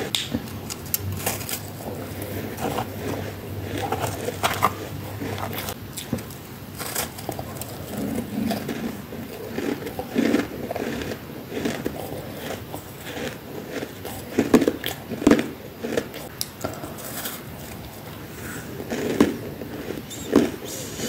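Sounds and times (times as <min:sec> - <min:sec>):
fingers crunching frost in plastic tub: 0:00.0 - 0:20.8
frost being chewed: 0:00.0 - 0:20.8.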